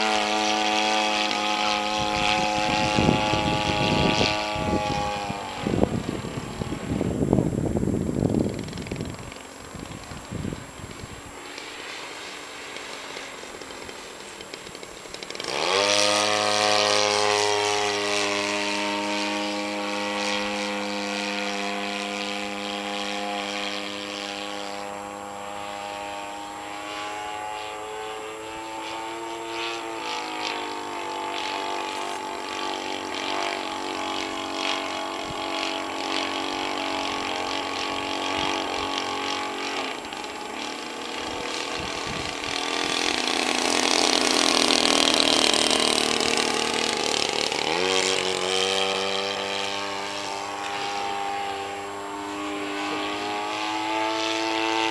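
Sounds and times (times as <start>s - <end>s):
light aircraft engine: 0.0s - 54.9s.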